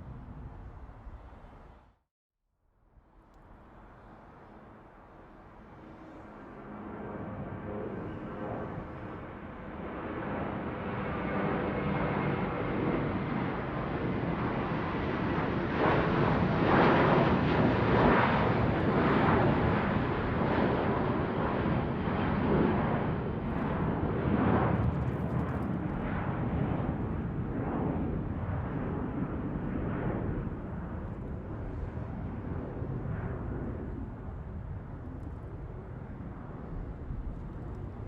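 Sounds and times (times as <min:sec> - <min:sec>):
airplane passing overhead: 0:00.0 - 0:02.0, 0:03.0 - 0:38.0.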